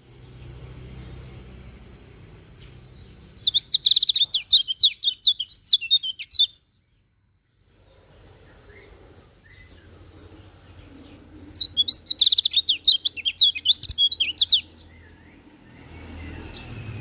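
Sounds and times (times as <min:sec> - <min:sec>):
bird twittering song: 0:00.0 - 0:17.0
low steady hum: 0:00.0 - 0:17.0
faint bird chirps: 0:02.5 - 0:17.0.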